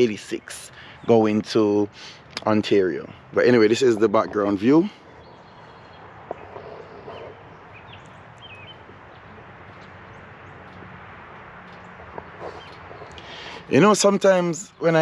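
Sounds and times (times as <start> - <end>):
passing traffic hiss: 0.0 - 14.8.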